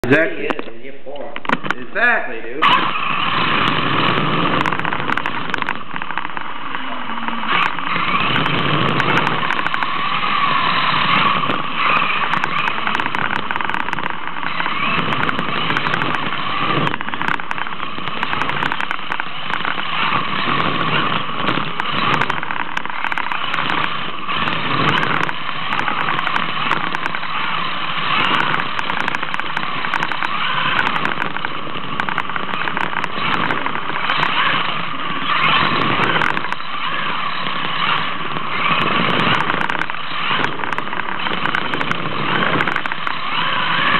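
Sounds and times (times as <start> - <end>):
rc car motor whining: 2.6 - 43.9.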